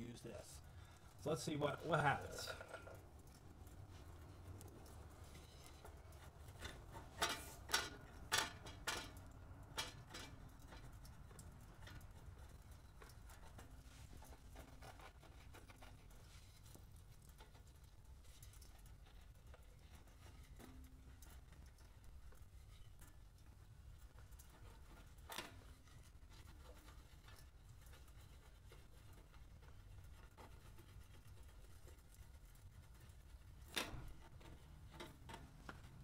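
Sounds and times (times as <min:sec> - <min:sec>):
faint scratching: 0:00.0 - 0:07.7, 0:10.7 - 0:36.0
stick scraping metal pipe: 0:04.8 - 0:23.5, 0:24.4 - 0:36.0.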